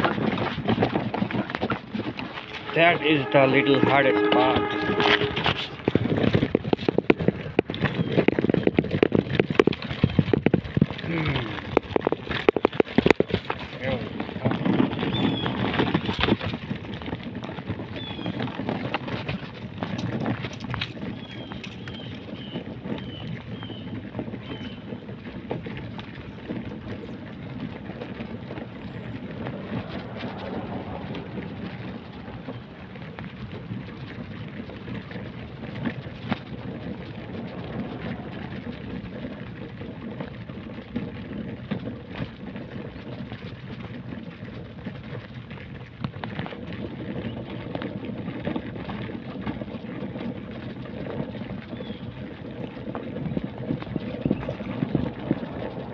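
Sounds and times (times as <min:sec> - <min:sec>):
footsteps on pavement: 0:00.0 - 0:55.9.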